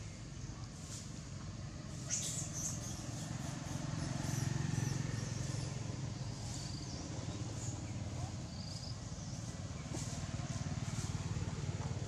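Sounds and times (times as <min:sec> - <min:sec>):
distant engine rumble: 0:00.0 - 0:12.0.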